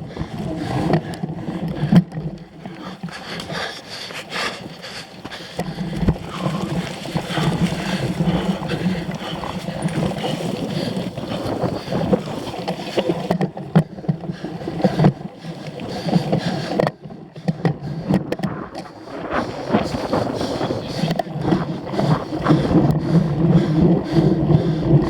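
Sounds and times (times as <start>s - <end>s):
bike rattling and clicking: 0.0s - 25.0s
bike tyres rumbling on rough ground: 0.0s - 25.0s.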